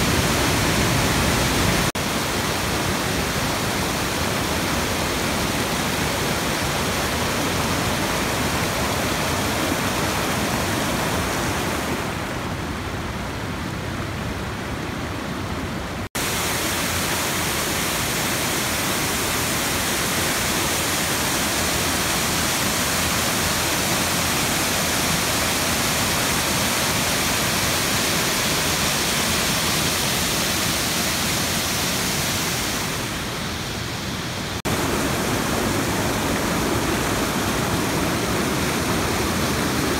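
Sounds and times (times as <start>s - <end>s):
waterfall rushing over rock: 0.0s - 12.6s, 16.2s - 39.9s.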